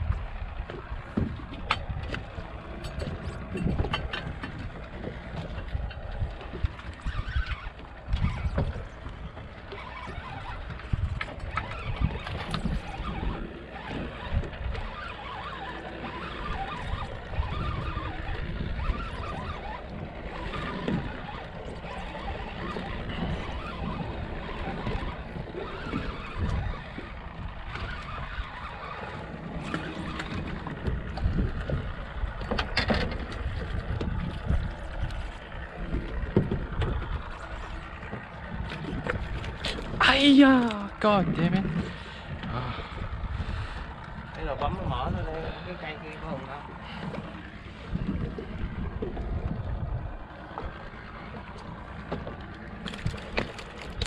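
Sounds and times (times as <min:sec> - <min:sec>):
water noise: 0:00.0 - 0:54.0
wind on microphone: 0:00.0 - 0:54.0.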